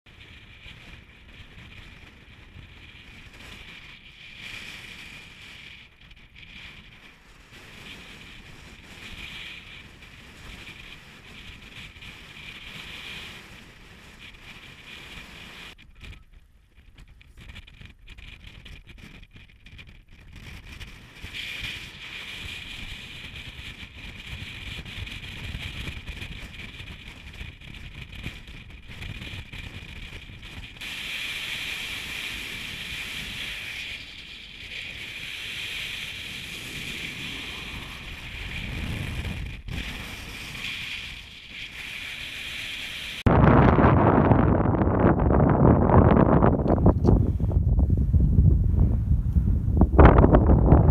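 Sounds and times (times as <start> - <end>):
strong wind buffeting microphone: 0.1 - 50.9.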